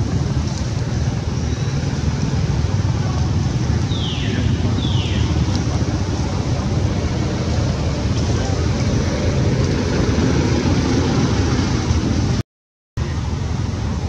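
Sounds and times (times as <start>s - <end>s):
wind rumble on microphone: 0.0s - 12.4s.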